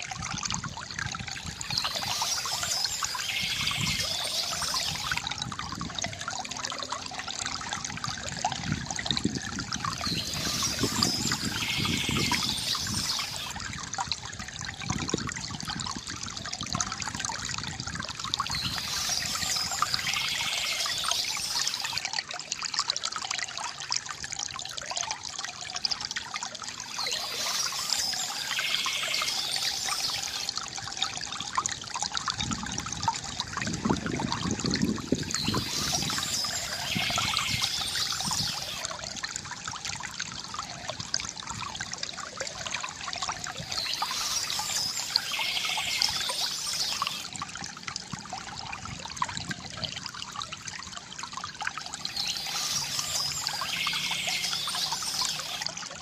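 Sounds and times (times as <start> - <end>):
water trickling from fountain: 0.0 - 56.0.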